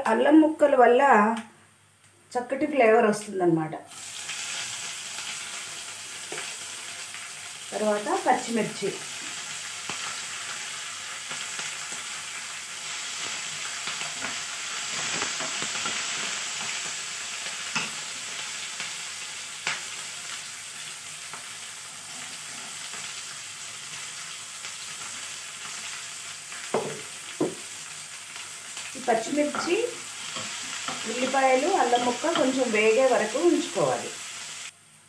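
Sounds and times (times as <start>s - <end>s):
spices sizzling in hot oil: 3.9s - 35.0s.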